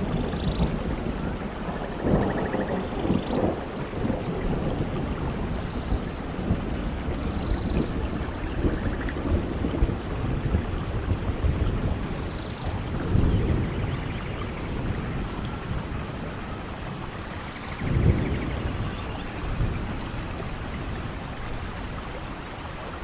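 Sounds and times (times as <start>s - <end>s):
thunder rolling: 0.0s - 21.4s
steady rain: 0.0s - 23.0s.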